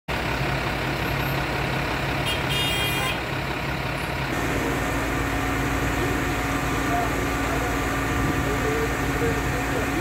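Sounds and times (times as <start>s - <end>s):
fire truck engine idling: 0.1s - 10.0s.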